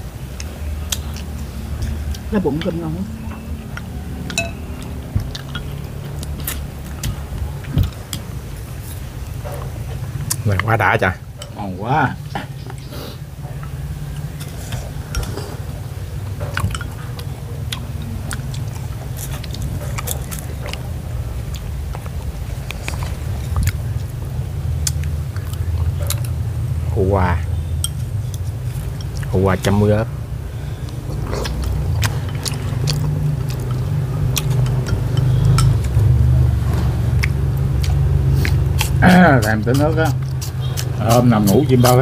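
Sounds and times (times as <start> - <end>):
steady low hum: 0.0 - 42.0
steady low rumble: 0.0 - 42.0
person chewing: 0.3 - 2.7, 3.3 - 10.8, 12.5 - 26.7, 27.6 - 29.8, 30.6 - 42.0.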